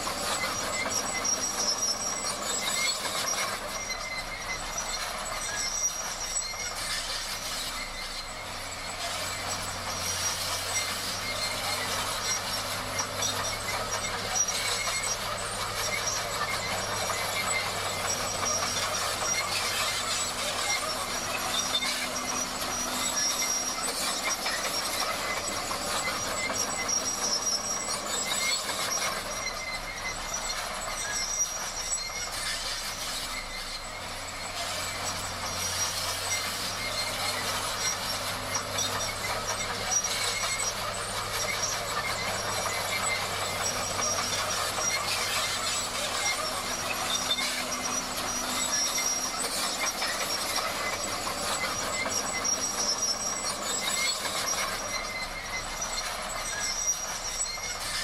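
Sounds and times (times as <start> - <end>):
bulldozer tracks clattering: 0.0 - 58.0
diesel engine hum: 0.0 - 58.0
high squealing tones: 0.0 - 58.0.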